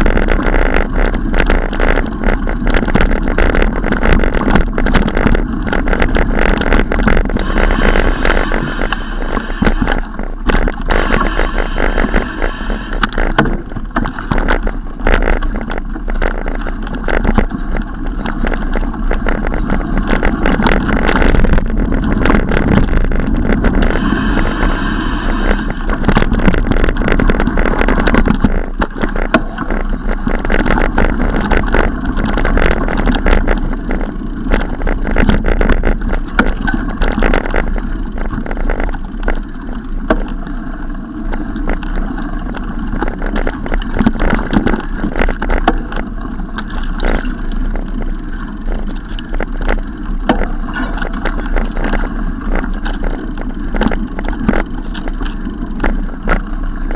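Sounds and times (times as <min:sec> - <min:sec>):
bicycle knocking and rattling: 0:00.0 - 0:40.5, 0:41.2 - 0:56.9
wind rushing over microphone: 0:00.0 - 0:56.9.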